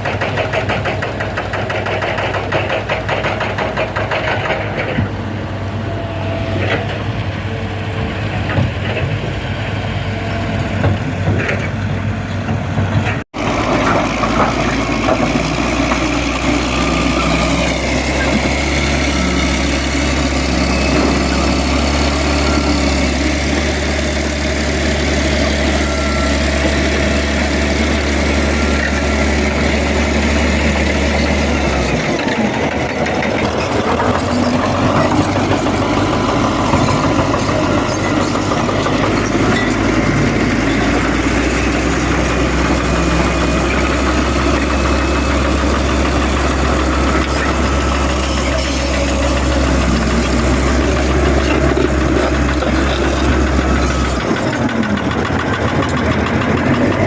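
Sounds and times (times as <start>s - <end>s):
heavy machinery engine running: 0.0s - 57.0s.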